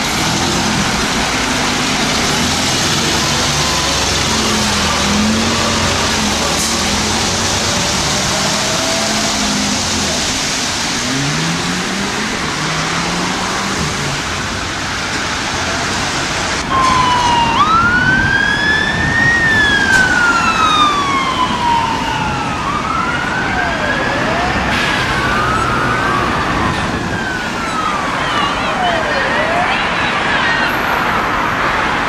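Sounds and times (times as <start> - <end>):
fire engine siren wailing: 0.0 - 32.0
vehicle and road noise: 0.0 - 32.0.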